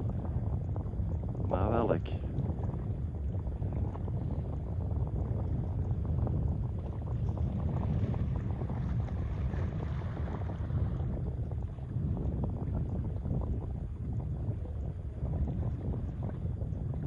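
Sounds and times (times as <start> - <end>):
motorboat engine rumble: 0.0 - 17.0
wind buffeting microphone: 0.0 - 17.0.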